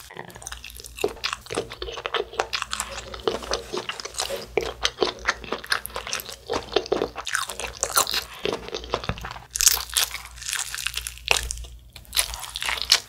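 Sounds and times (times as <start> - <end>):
chewing with mouth clicks: 0.0 - 13.0.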